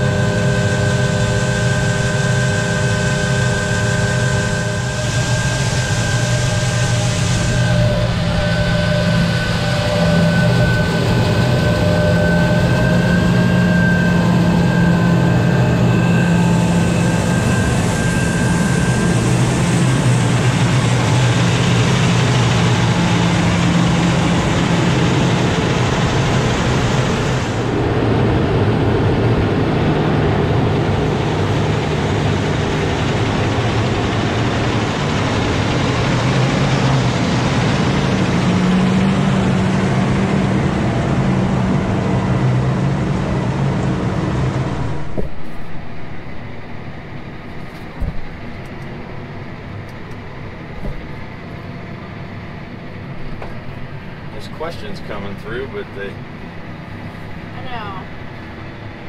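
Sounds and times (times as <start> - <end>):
thin high whine: 0.0 - 29.7, 30.6 - 51.5
tractor diesel engine under load: 0.0 - 59.0.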